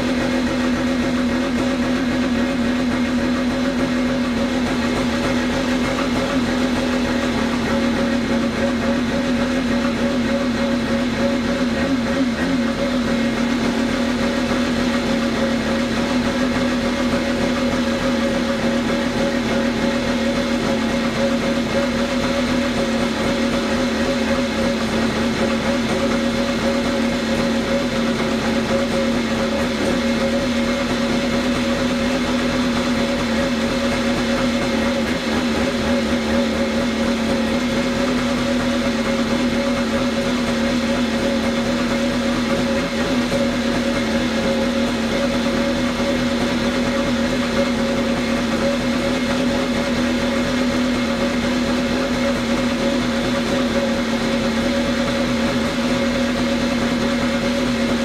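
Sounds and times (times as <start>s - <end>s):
jet ski two-stroke engine running: 0.0s - 58.0s.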